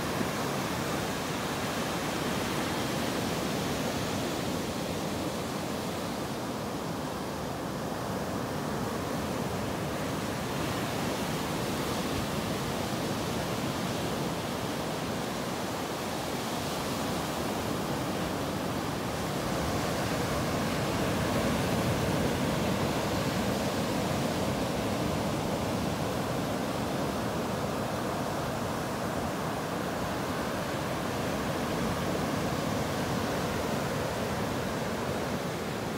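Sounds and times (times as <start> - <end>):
waves washing up a beach: 0.0 - 35.9.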